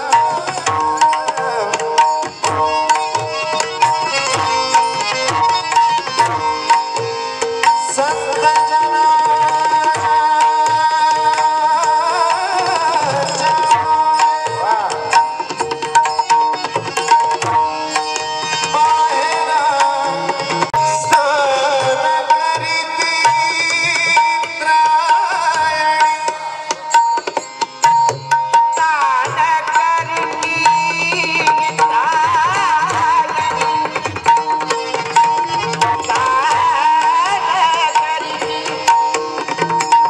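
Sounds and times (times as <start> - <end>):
devotional melody with bending pitch: 0.0 - 40.0
tabla strokes: 0.0 - 40.0.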